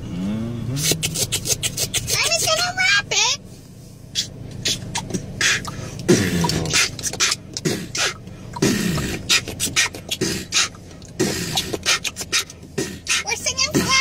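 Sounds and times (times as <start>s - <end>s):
beatboxing: 0.0s - 2.8s, 4.2s - 14.0s.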